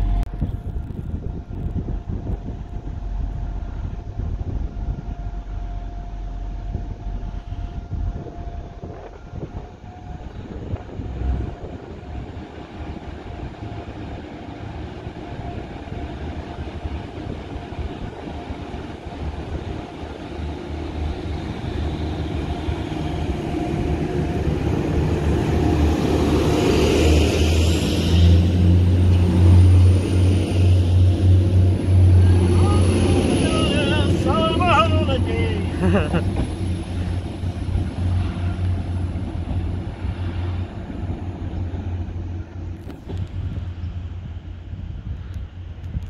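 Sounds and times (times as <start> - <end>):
diesel train engines throbbing: 0.0 - 46.0.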